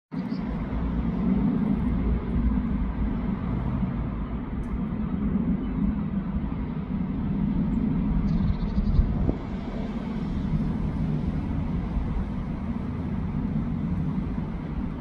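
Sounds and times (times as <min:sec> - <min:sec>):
low background rumble: 0:00.2 - 0:15.0.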